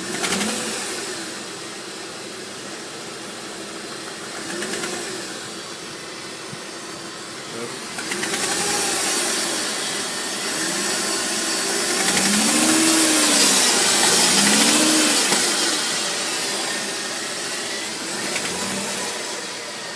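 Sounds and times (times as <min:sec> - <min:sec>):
car engine rattling and revving: 0:00.0 - 0:19.9.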